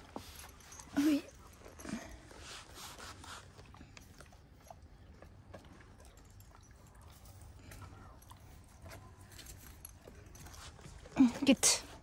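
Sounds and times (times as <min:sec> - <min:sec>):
dog chewing and mouth clicks: 0:00.0 - 0:11.2.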